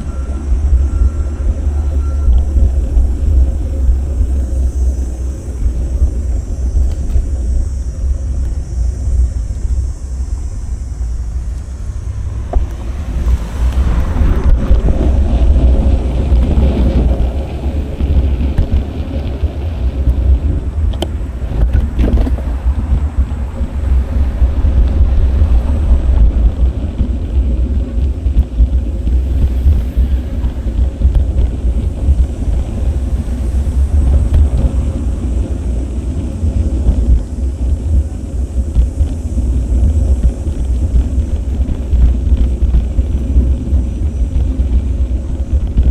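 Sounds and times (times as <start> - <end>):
road noise: 0.0 - 45.9
wind buffeting microphone: 0.0 - 45.9.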